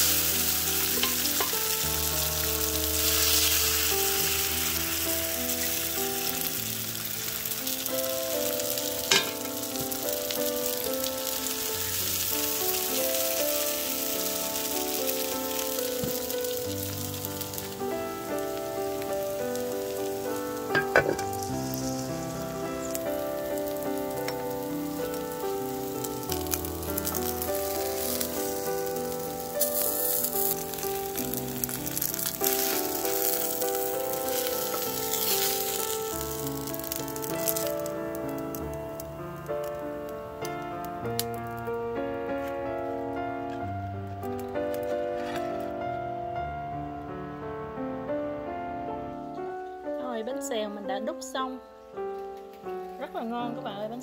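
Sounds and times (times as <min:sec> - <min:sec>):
batter sizzling in hot oil: 0:00.0 - 0:43.5
soft instrumental music: 0:00.0 - 0:54.0.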